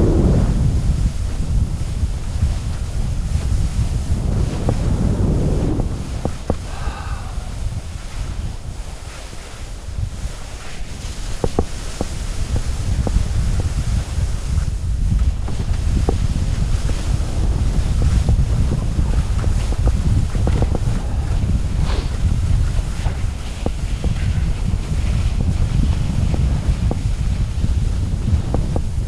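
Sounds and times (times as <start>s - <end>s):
skis scraping over snow: 0.0s - 29.0s
wind buffeting microphone: 0.0s - 29.0s.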